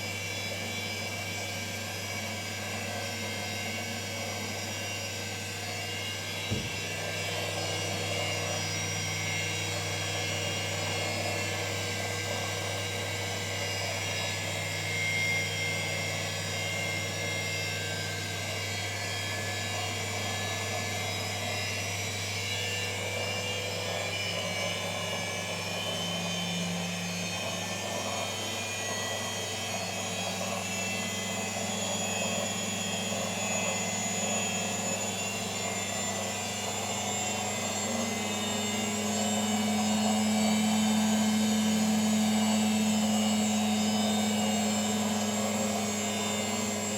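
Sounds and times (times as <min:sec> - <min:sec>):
washing machine humming and whining: 0:00.0 - 0:46.9.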